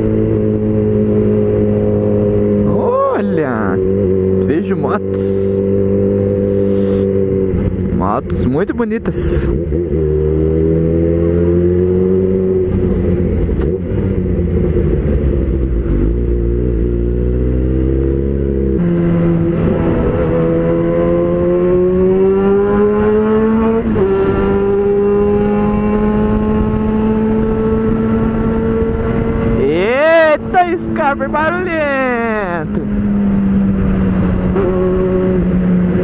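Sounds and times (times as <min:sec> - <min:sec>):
motorcycle exhaust note: 0:00.0 - 0:08.4, 0:09.2 - 0:36.0.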